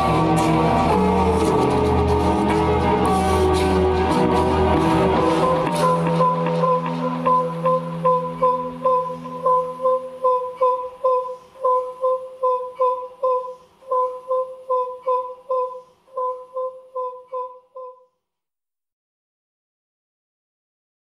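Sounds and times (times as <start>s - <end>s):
low drone: 0.0s - 17.5s
repeating synth note: 0.0s - 18.0s.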